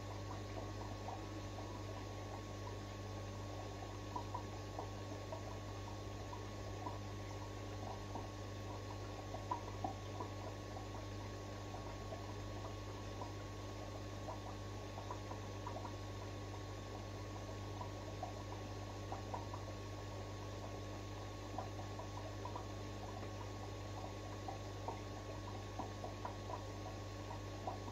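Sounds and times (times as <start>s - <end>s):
aquarium pump hum: 0.0s - 27.9s.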